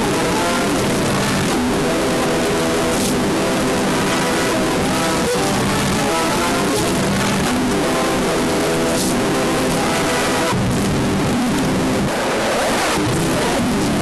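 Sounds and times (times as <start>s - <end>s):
loud static hiss: 0.0s - 14.0s
reversed music held tones: 0.0s - 14.0s.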